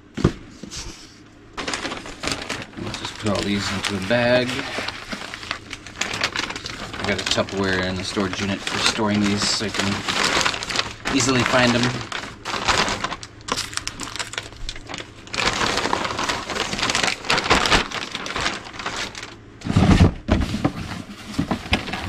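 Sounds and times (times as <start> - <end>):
plastic bag crinkling: 1.6 - 19.4.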